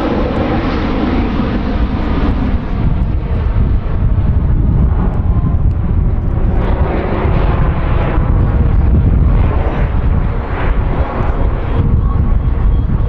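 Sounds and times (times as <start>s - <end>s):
jet aircraft roar: 0.0s - 13.0s.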